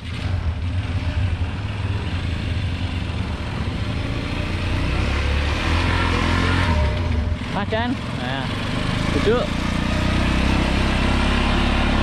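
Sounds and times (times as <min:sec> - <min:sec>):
motorcycle engine droning under load: 0:00.0 - 0:12.0.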